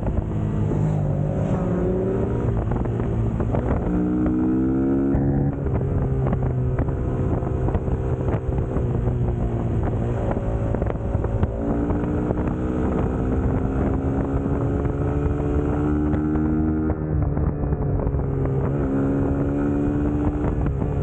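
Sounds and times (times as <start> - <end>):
motorcycle engine running: 0.0 - 21.0
wind on microphone: 0.0 - 21.0.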